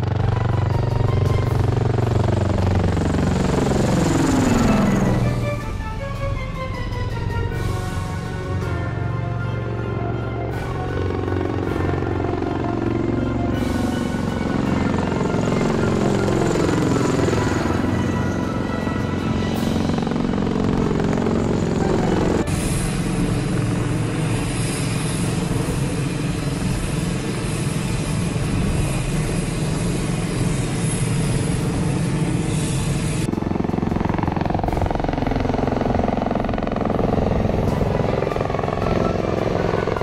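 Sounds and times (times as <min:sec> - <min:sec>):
aircraft passing low: 0:00.0 - 0:40.0
tilt-rotor aircraft rotor noise: 0:00.0 - 0:40.0.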